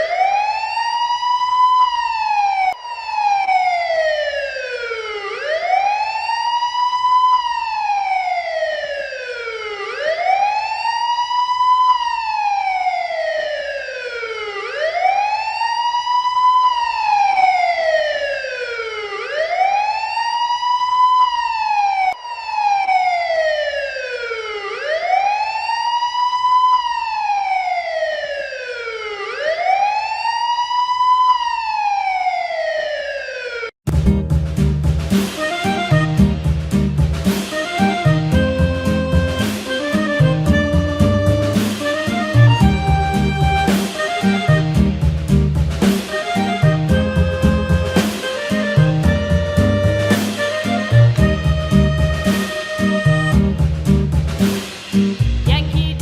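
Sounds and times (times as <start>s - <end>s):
wailing electronic siren: 0.0s - 33.8s, 37.4s - 45.0s, 46.0s - 53.6s.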